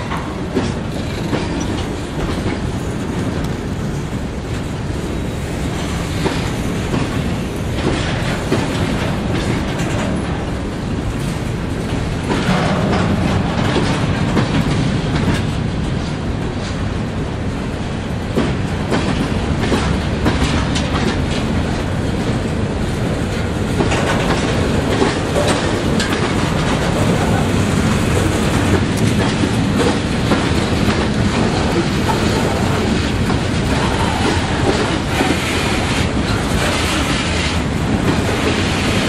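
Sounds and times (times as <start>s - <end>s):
wheels clattering over rail joints: 0.0s - 16.9s, 18.3s - 39.0s
train rumbling past: 0.0s - 39.0s.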